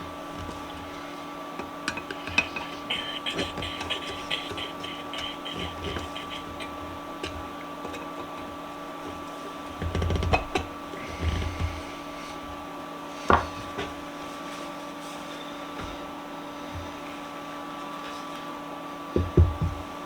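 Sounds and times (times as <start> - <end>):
steady shop hum: 0.0 - 20.0.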